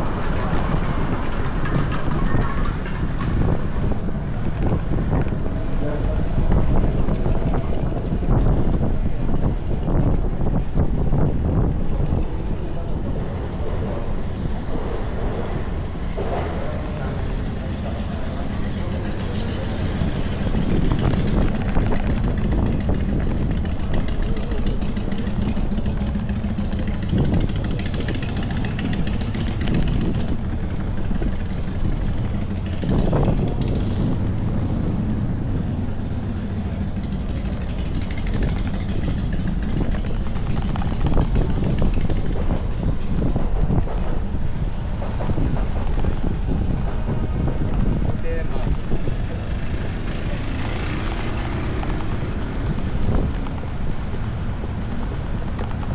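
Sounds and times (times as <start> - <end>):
city street noise: 0.0 - 55.9
wind buffeting microphone: 0.0 - 55.9.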